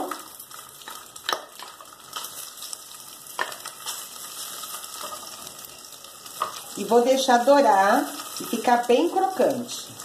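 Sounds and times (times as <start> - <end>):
bacon sizzling in oil: 0.0 - 10.0
wooden spoon stirring: 0.6 - 10.0.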